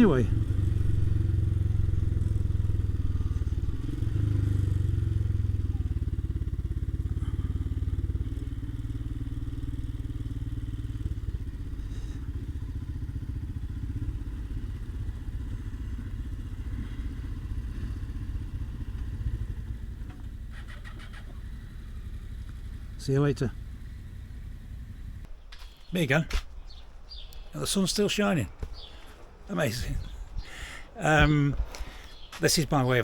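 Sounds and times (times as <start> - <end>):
motorcycle engine at low speed: 0.0 - 25.9, 26.5 - 27.5, 28.5 - 32.4.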